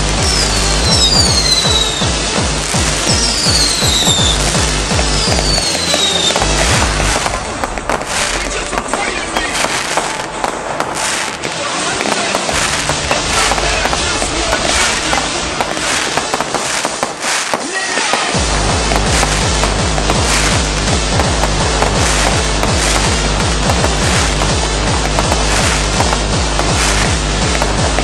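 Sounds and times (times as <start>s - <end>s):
fireworks bangs and crackles: 0.0s - 28.0s
music playing: 0.0s - 28.0s.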